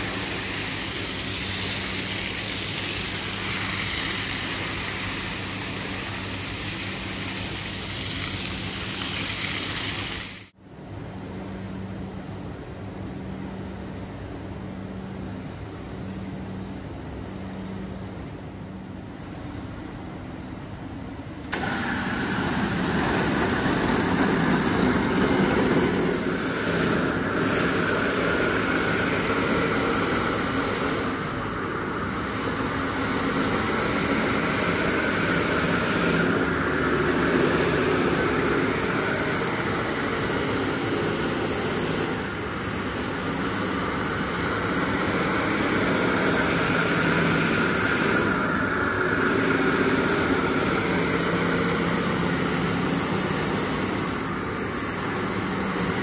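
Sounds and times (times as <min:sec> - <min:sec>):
cleaning machinery running: 0:00.0 - 0:10.6, 0:21.4 - 0:56.0.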